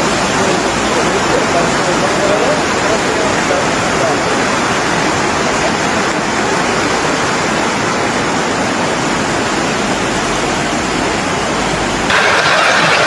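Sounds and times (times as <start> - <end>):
fast-flowing water rushing: 0.0 - 13.0.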